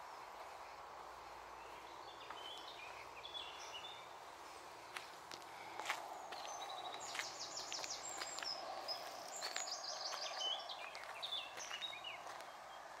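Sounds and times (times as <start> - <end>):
songbirds singing: 0.0 - 13.0
steady background noise: 0.0 - 13.0.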